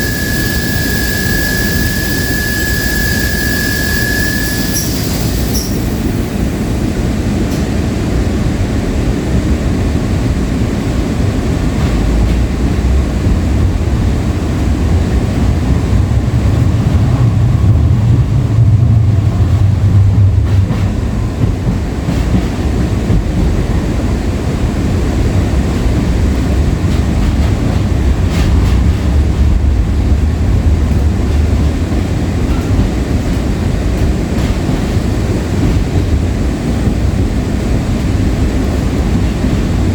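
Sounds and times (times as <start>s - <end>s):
light rail wheels rumbling on track: 0.0s - 39.9s.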